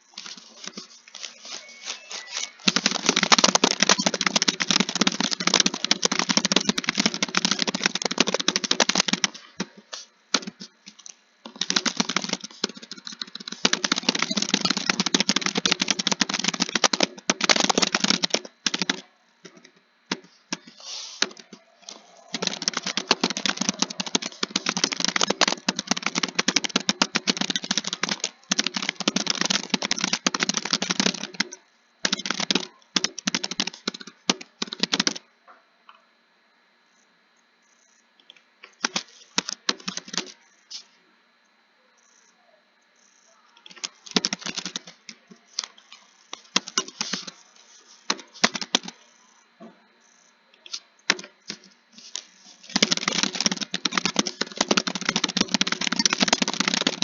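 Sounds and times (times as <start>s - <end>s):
typing on computer keyboard: 1.4s - 9.7s, 10.4s - 35.2s, 38.8s - 40.4s, 43.6s - 49.2s, 51.1s - 57.0s.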